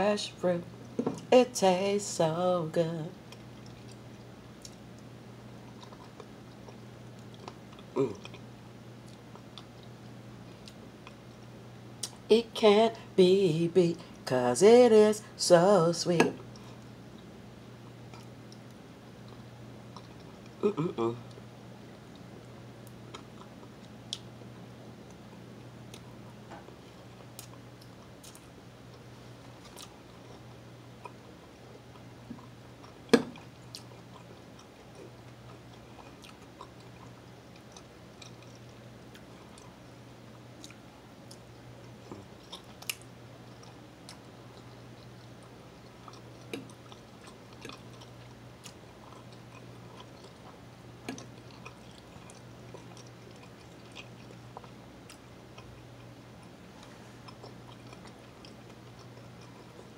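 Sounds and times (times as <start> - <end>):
person chewing food: 3.2 - 12.3, 16.4 - 59.9.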